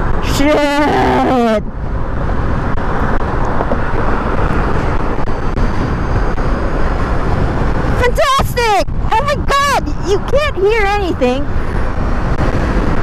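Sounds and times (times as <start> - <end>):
wind rush and road noise: 0.0 - 13.0.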